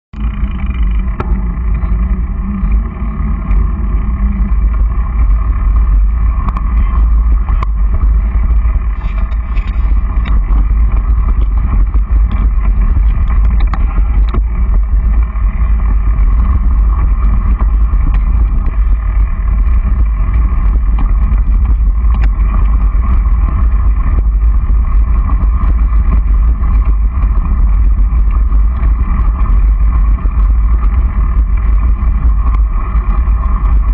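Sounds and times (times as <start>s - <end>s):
wind rumble on microphone: 0.0s - 33.9s.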